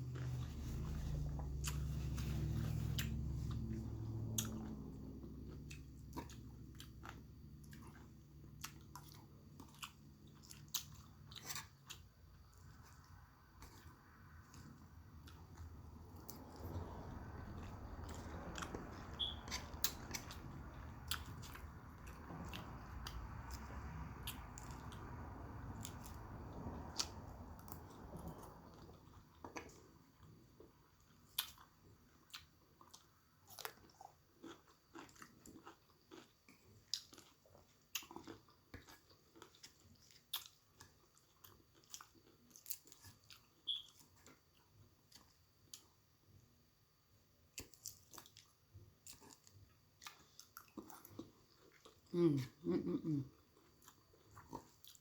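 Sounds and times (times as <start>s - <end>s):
crunchy chewing: 0.0s - 45.9s, 47.5s - 52.2s, 53.2s - 55.0s.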